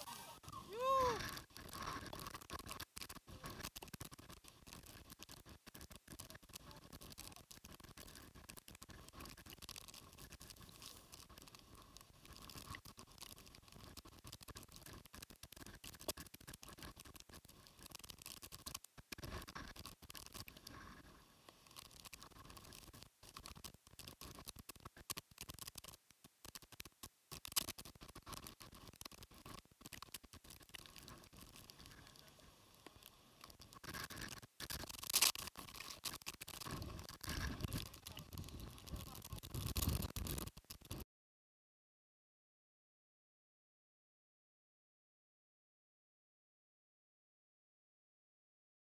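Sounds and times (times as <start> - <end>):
rain pattering on microphone: 0.0 - 41.0.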